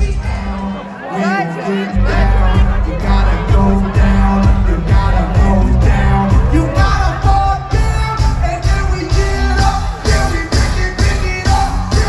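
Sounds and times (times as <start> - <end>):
amplified live concert music: 0.0 - 12.0
person singing: 0.0 - 12.0.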